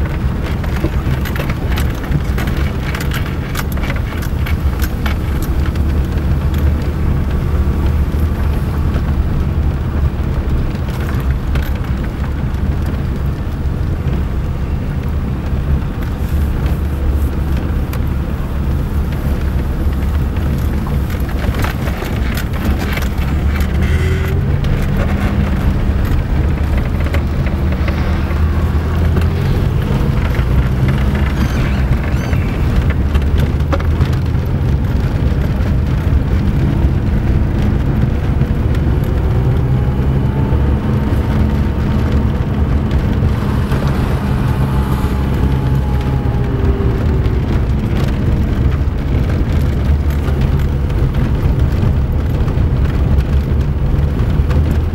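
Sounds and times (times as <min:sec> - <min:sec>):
car engine and tyre rumble: 0:00.0 - 0:54.9
wheels knocking and rattling: 0:00.0 - 0:54.9.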